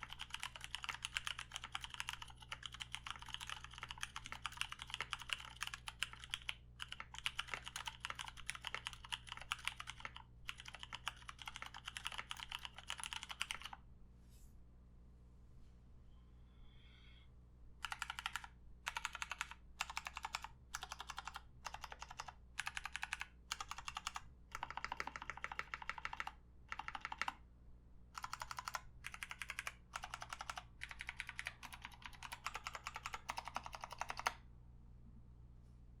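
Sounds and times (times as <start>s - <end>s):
mechanical keyboard typing: 0.0s - 13.8s, 17.8s - 27.4s, 28.2s - 34.4s.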